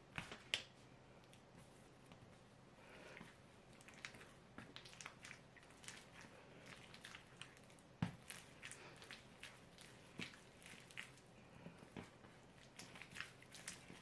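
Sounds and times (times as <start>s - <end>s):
dough squishing: 0.0s - 14.0s.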